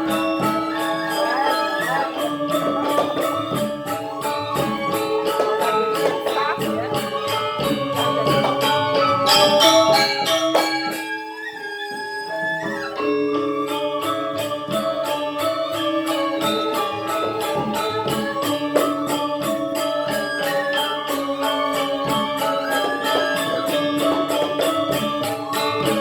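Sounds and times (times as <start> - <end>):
gamelan ensemble playing: 0.0 - 26.0
small cymbals striking: 0.0 - 26.0.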